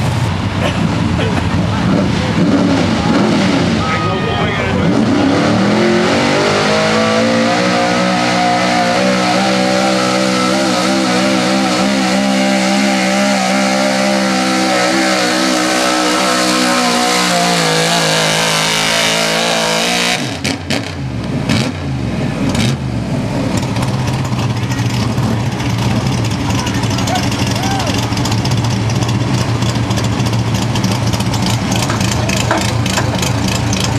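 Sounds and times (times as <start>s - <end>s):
truck engine at high revs: 0.0s - 33.9s.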